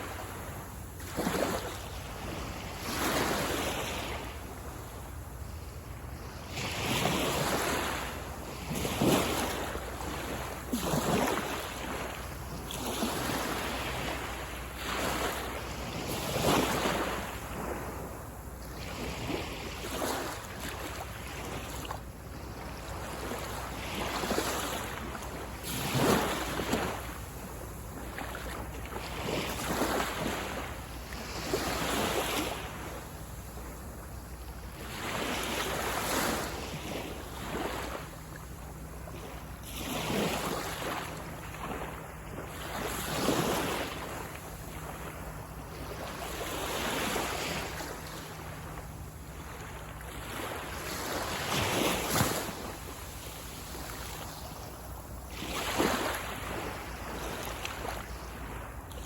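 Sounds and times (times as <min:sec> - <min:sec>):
small waves breaking on beach: 0:00.0 - 0:59.0.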